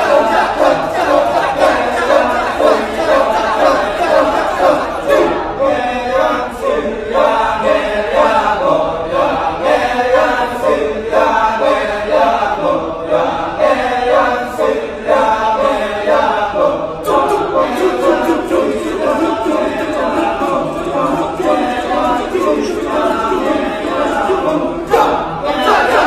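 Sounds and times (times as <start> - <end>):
chorus chanting: 0.0 - 26.0.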